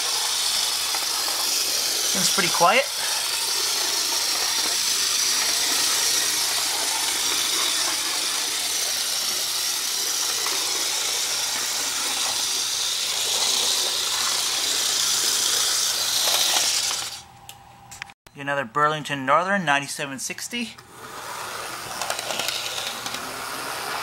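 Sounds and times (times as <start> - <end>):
model train motor whirring: 0.0 - 17.2, 20.8 - 24.0.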